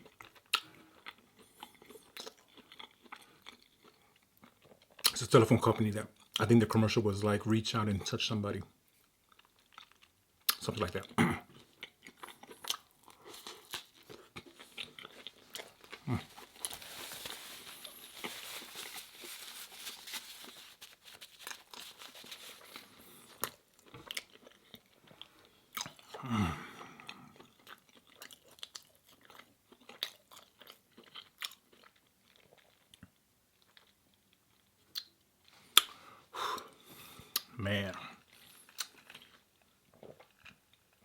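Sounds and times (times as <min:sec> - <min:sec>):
chewing and crunching food: 0:00.0 - 0:06.5, 0:08.9 - 0:41.0.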